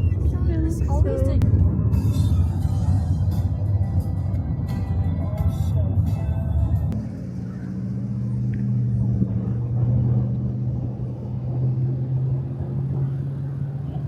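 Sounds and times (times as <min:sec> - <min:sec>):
car engine drone: 0:00.0 - 0:14.0
road noise inside car: 0:00.0 - 0:14.0.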